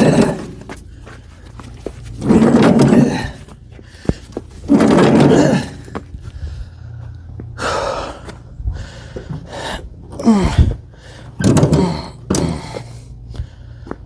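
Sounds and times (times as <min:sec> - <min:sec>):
man panting and grunting: 0:00.0 - 0:01.6, 0:02.6 - 0:14.0.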